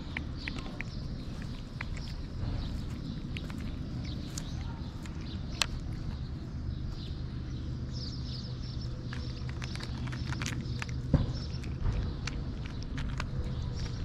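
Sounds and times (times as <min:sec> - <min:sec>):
cat chewing clicks: 0:00.0 - 0:06.7, 0:07.4 - 0:14.0
low steady rumble: 0:00.0 - 0:14.0.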